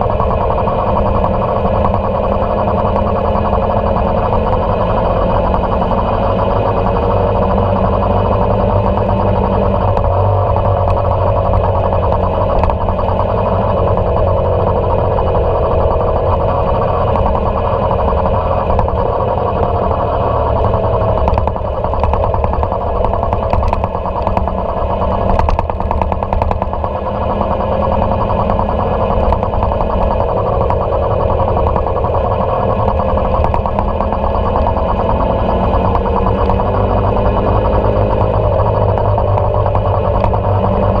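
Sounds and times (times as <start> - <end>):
motorcycle engine cruising: 0.0 - 41.0
road and wind noise: 0.0 - 41.0.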